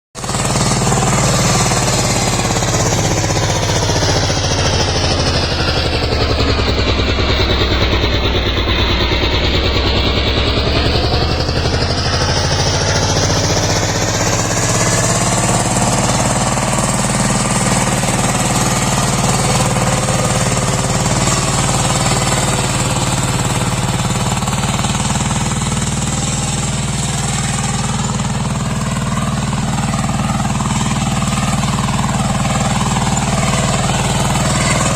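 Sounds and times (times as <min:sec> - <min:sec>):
diesel engine chugging: 0:00.2 - 0:34.9.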